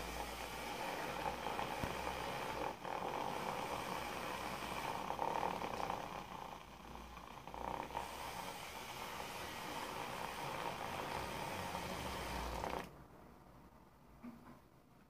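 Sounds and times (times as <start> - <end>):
milk frothers whirring: 0.0 - 12.9.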